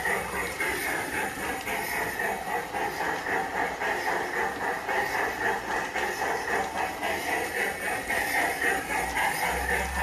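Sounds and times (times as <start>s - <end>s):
model train running on track: 0.0s - 10.0s.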